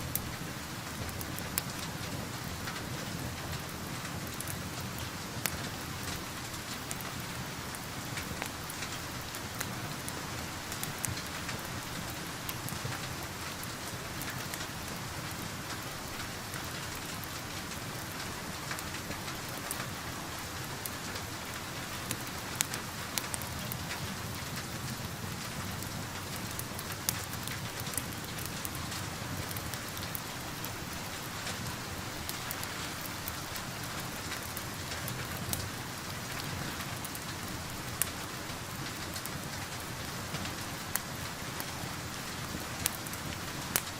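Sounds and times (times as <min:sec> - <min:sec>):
steady rain falling: 0:00.0 - 0:43.9
wood fire crackling: 0:00.0 - 0:43.9.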